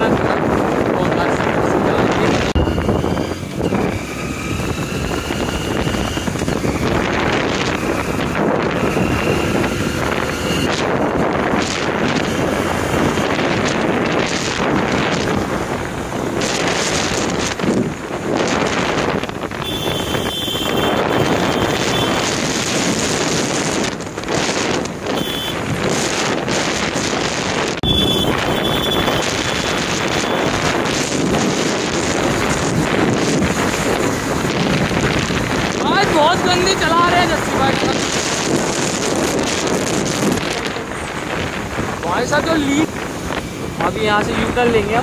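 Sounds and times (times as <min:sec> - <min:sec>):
road noise: 0:00.0 - 0:45.0
wind rushing over microphone: 0:00.0 - 0:45.0
motorcycle engine running: 0:01.9 - 0:41.1.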